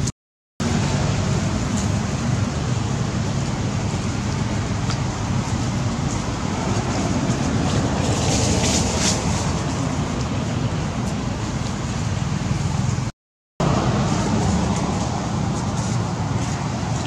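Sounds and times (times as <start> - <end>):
steady rumbling: 0.0 - 17.0.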